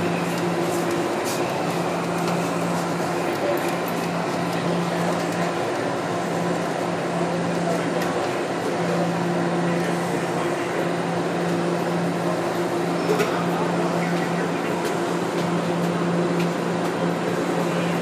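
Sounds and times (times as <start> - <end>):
subway train running hum: 0.0 - 18.0.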